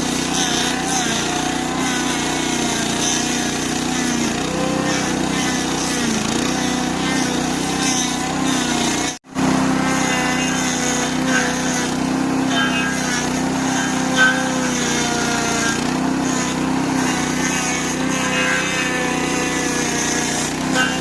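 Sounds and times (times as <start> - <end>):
cutter wheel grinding stump: 0.0 - 21.0
stump grinder engine under load: 0.0 - 21.0.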